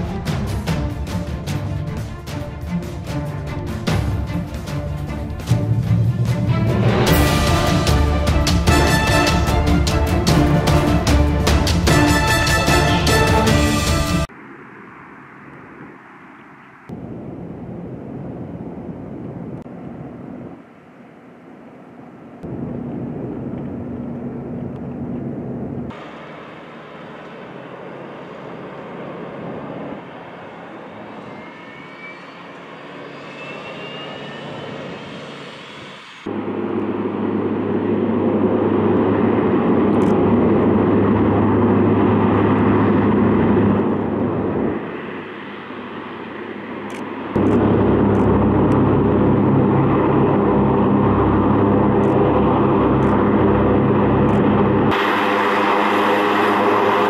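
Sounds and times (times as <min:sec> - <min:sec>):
propeller engine drone: 0:00.0 - 0:57.0.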